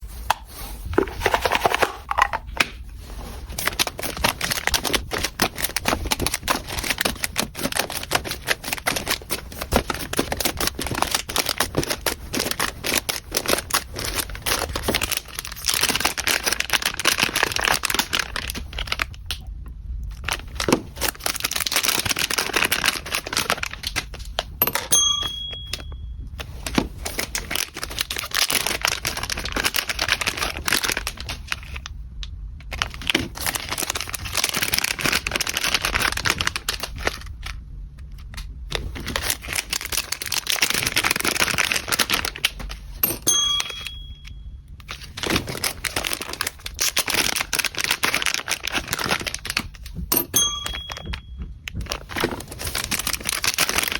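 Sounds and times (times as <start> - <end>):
packaging rustling and crinkling: 0.0 - 53.9.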